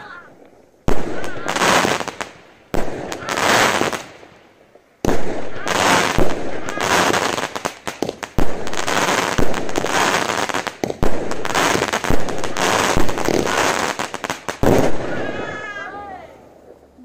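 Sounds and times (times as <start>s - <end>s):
fireworks bangs: 0.0s - 16.8s
crackling fireworks stars: 0.0s - 17.0s.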